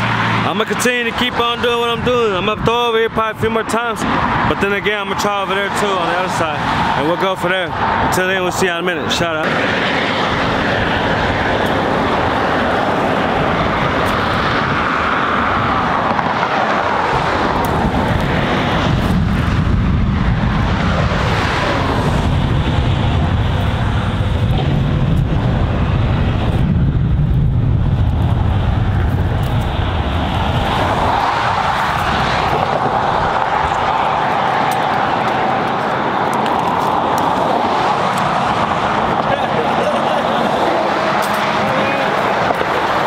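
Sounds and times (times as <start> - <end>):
vehicles passing close by: 0.0 - 43.0.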